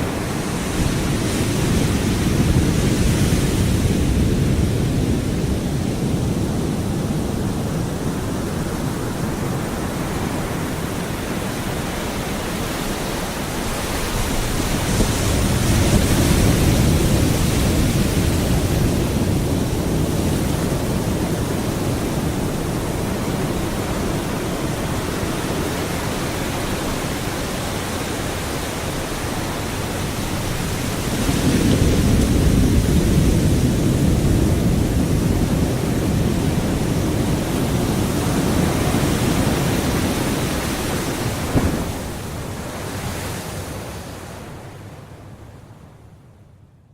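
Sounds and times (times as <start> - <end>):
surf breaking on a beach: 0.0 - 45.6
wind: 0.0 - 46.9.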